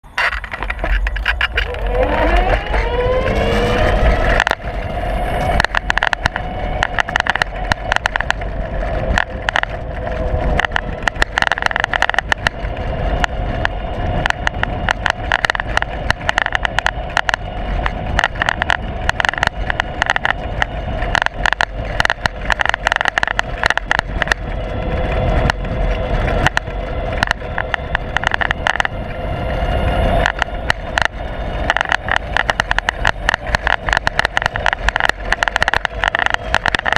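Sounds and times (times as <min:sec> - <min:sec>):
steady vehicle whine: 0:00.0 - 0:36.9
camera mount rattling and knocking: 0:00.1 - 0:04.7, 0:05.5 - 0:08.5, 0:09.1 - 0:12.6, 0:13.2 - 0:24.4, 0:26.4 - 0:28.9, 0:30.2 - 0:36.9.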